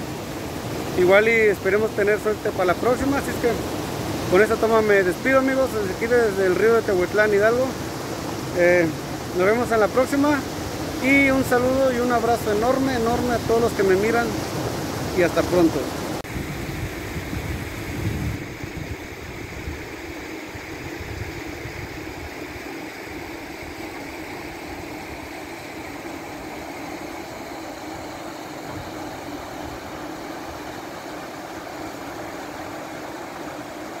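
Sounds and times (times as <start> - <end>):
river water rushing over rocks: 0.0 - 16.2, 19.9 - 34.0.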